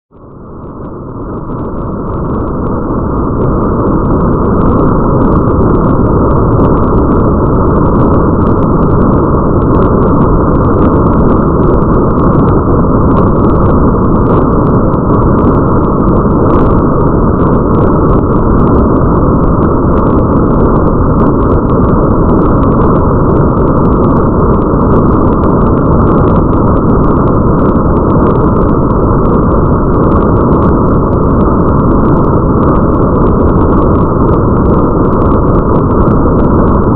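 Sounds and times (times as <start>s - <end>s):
muffled rain hiss: 0.1s - 36.9s
raindrop ticks: 0.6s - 36.9s.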